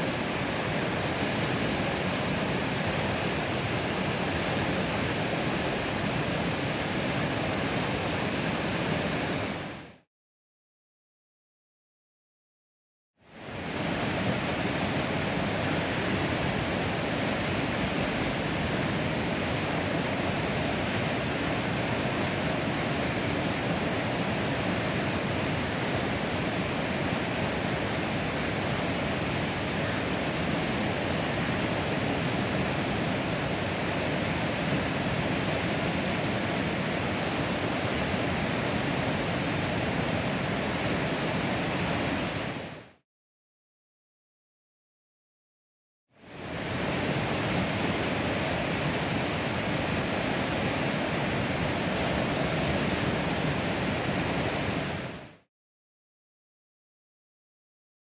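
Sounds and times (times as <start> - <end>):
river rapids rushing: 0.0 - 9.9, 13.4 - 42.9, 46.3 - 55.4.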